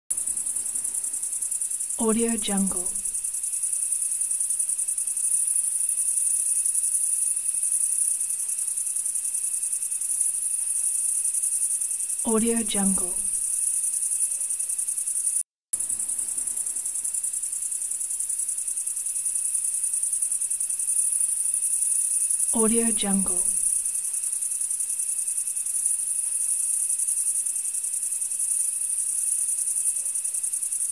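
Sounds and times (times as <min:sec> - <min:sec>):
crickets chirping: 0:00.1 - 0:30.9.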